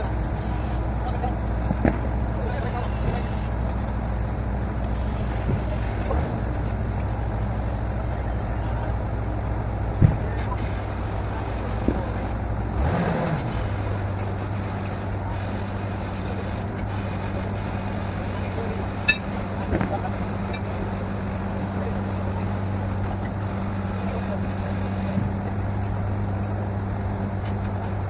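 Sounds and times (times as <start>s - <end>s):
drilling rig engine running: 0.0s - 28.0s.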